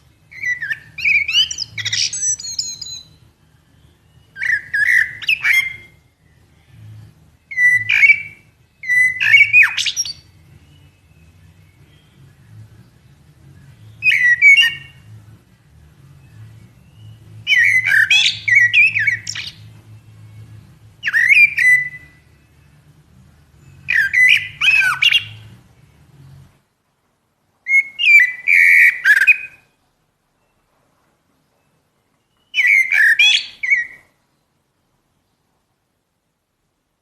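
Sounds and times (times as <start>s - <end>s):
blackbird singing: 0.0s - 26.5s, 27.6s - 29.8s, 31.5s - 34.5s.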